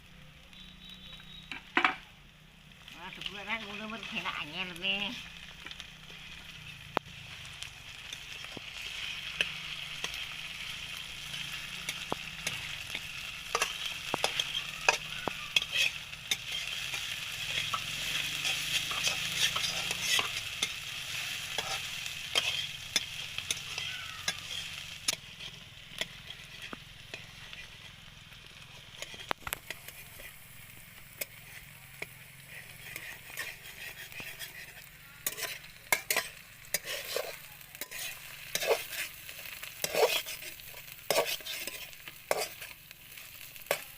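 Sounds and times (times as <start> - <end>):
curry sizzling in a pan: 0.0 - 43.9.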